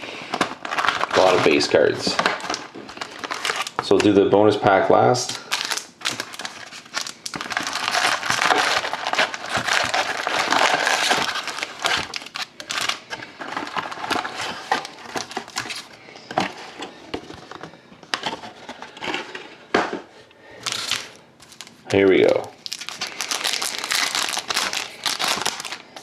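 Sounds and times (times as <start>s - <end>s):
foil wrappers crinkling: 0.0s - 4.2s, 5.3s - 17.6s, 20.6s - 26.0s.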